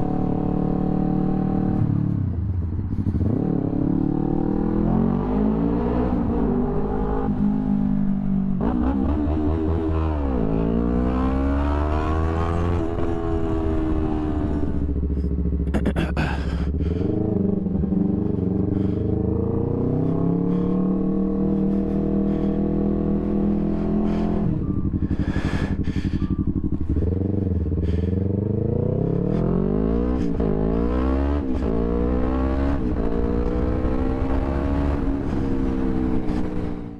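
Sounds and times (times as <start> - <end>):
motorcycle engine accelerating: 0.0 - 36.9.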